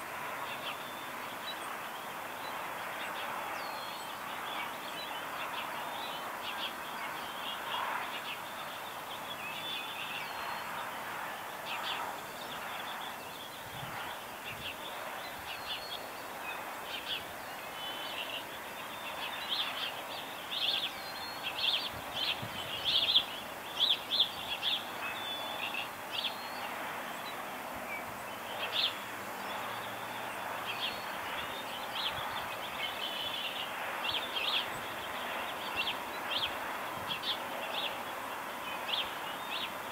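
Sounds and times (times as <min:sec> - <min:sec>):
small birds chirping: 0:00.0 - 0:39.9
steady outdoor hiss: 0:00.0 - 0:39.9.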